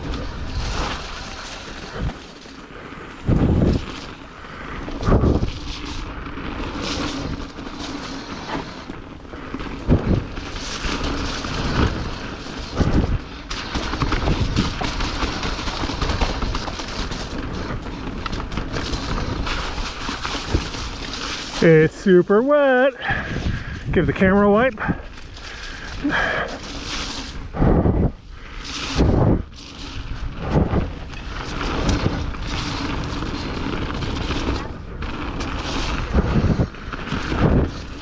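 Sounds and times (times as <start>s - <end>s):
bike thudding over bumps: 0.0s - 38.0s
wind and tyre noise: 0.0s - 38.0s.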